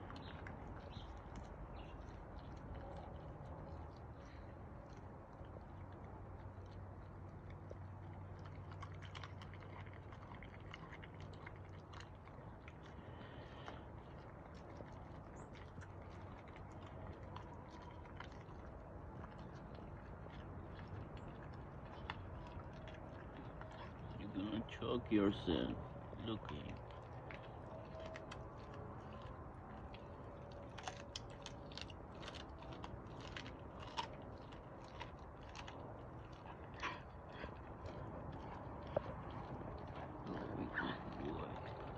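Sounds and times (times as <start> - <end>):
dog chewing meat and bone: 0.0 - 41.9
faint low hum: 0.0 - 41.9.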